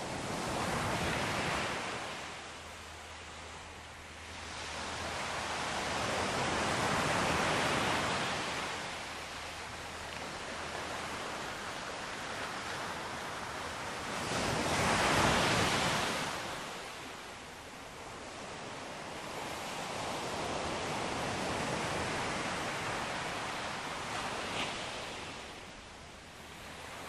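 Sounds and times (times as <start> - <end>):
sea waves washing onto shore: 0.0 - 27.0.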